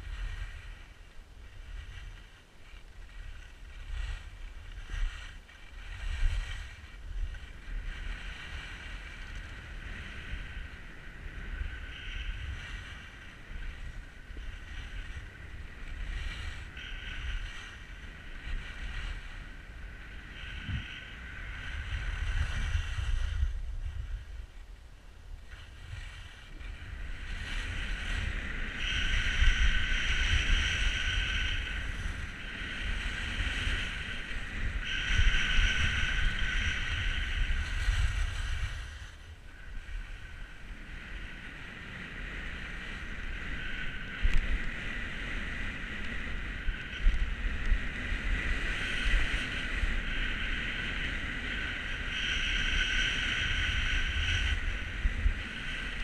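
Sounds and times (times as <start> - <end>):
skis scraping on snow: 0.0 - 56.0
wind buffeting microphone: 0.0 - 56.0.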